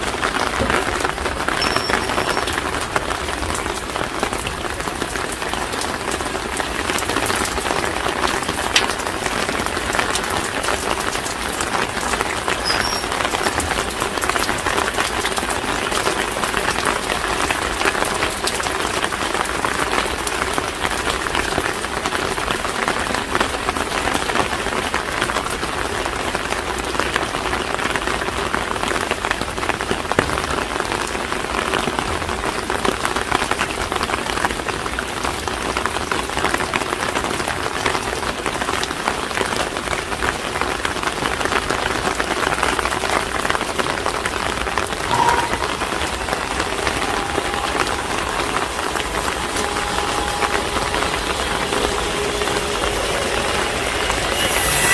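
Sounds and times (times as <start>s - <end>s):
rain pattering on hard surfaces: 0.0s - 54.0s.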